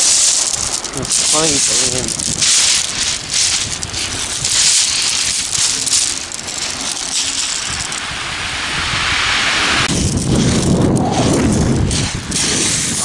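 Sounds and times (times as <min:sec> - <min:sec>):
surf rushing over pebbles: 0:00.0 - 0:13.0.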